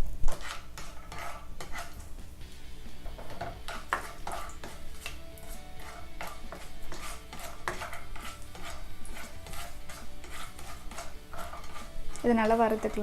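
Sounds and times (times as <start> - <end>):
spices frying in oil: 0.0 - 13.0
metal spoon scraping a pan: 0.3 - 2.2, 3.1 - 13.0.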